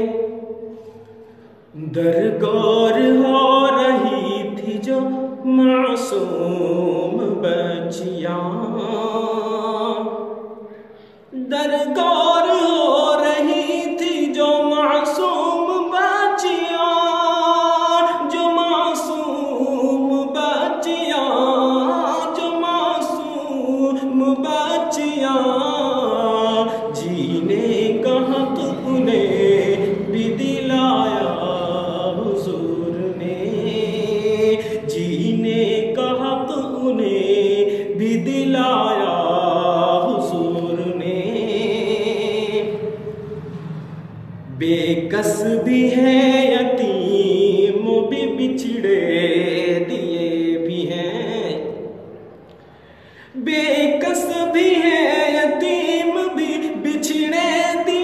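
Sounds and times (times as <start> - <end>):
man singing unaccompanied: 0.0 - 10.6, 11.3 - 43.4, 44.2 - 52.2, 53.3 - 58.0.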